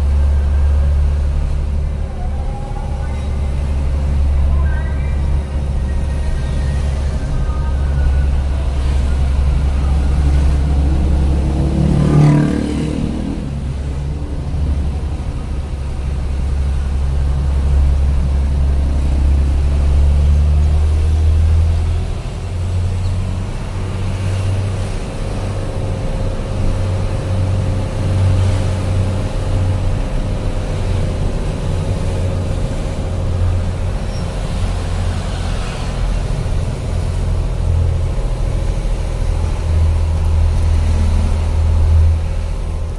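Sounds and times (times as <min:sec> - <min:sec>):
truck engine droning: 0:00.0 - 0:42.9.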